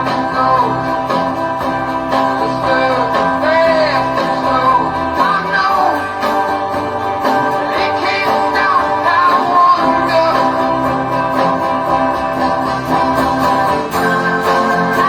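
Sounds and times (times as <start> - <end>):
guitar strumming chords: 0.0 - 15.0.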